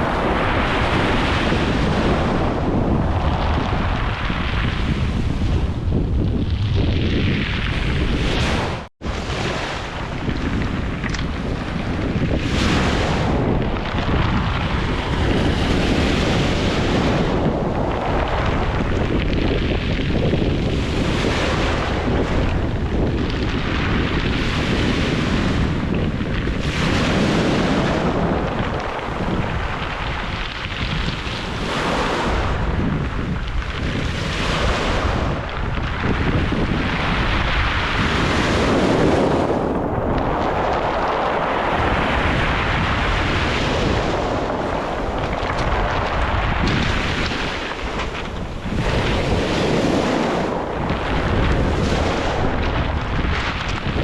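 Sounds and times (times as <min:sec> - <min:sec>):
waves surging on beach: 0:00.0 - 0:05.8, 0:07.6 - 0:54.0
wind rumbling on microphone: 0:00.0 - 0:54.0.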